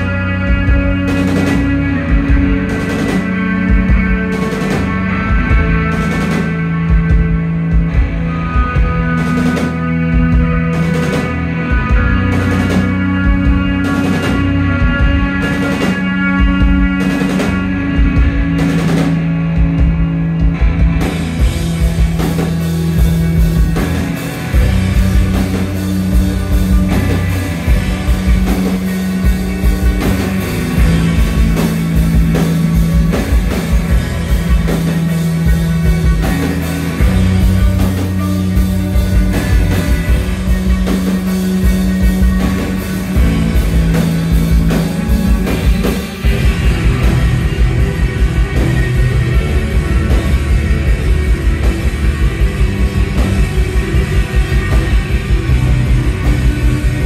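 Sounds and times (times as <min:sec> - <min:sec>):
drum kit and cymbals: 0:00.0 - 0:57.0
electric guitars: 0:00.0 - 0:57.0
repeating bass line: 0:00.0 - 0:57.0.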